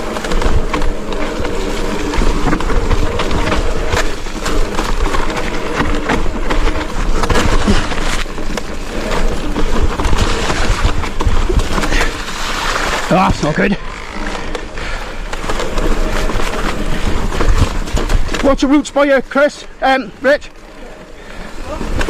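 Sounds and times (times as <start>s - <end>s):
bike tyres on wet ground: 0.0s - 22.0s.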